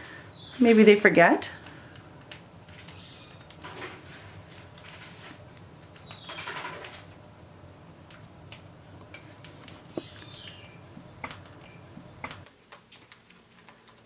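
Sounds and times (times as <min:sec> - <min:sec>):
birds cracking seeds: 0:01.5 - 0:07.3, 0:07.9 - 0:14.0.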